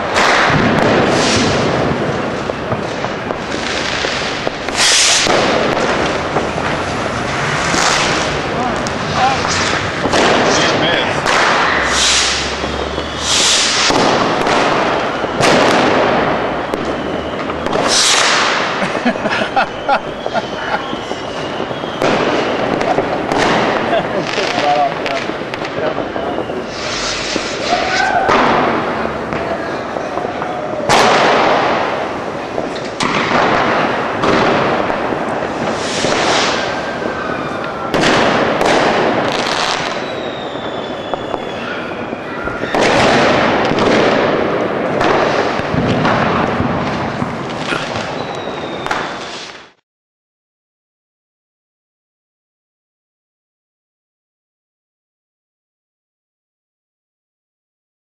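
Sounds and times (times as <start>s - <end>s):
firecrackers crackling: 0.0s - 49.8s
fireworks bangs: 0.0s - 49.8s.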